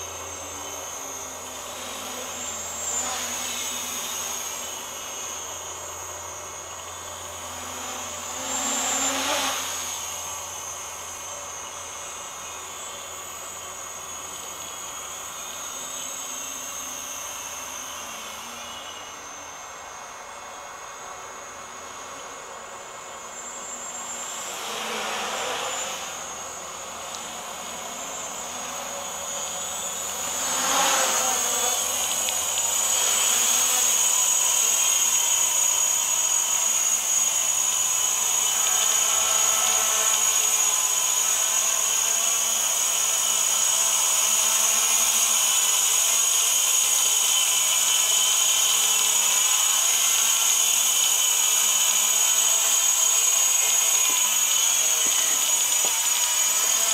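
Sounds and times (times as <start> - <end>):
quadcopter propellers buzzing: 0.0 - 56.9.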